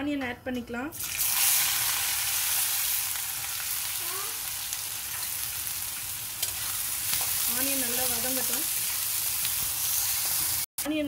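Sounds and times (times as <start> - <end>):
onions sizzling in oil: 1.0 - 11.0.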